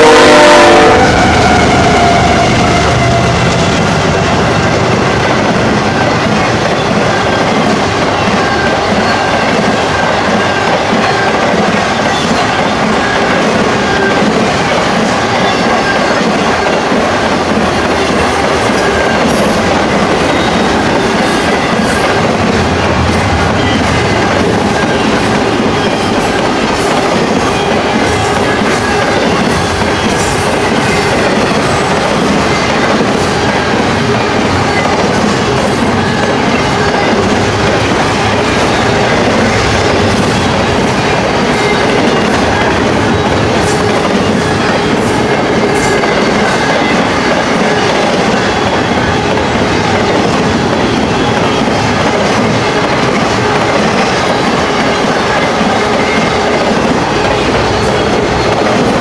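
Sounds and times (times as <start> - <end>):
clickety-clack of train wheels: 0.0 - 59.0
train wheels rumbling on rail: 0.0 - 59.0.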